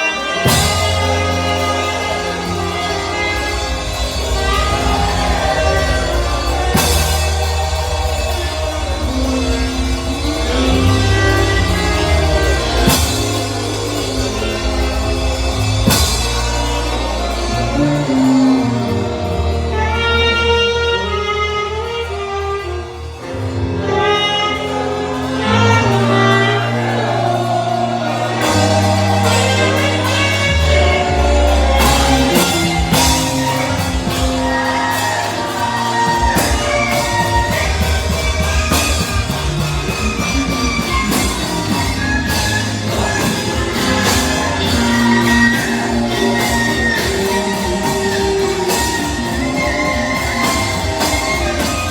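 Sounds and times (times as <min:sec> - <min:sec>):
drum kit with cymbal crashes: 0:00.0 - 0:51.9
sustained bass notes: 0:00.0 - 0:51.9
wavering lead melody: 0:00.0 - 0:51.9.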